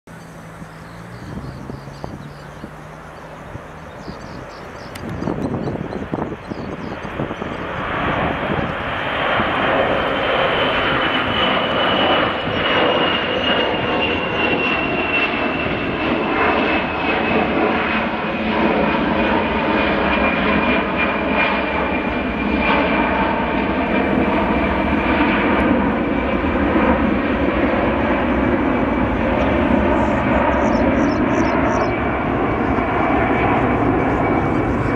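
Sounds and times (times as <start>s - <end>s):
jet engines roaring: 0.1s - 34.9s.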